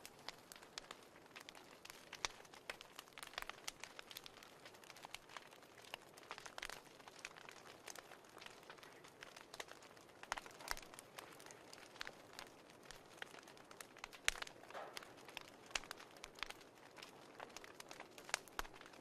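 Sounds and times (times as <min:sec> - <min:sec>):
low steady fire hiss: 0:00.0 - 0:19.0
wood fire crackling and popping: 0:00.0 - 0:19.0.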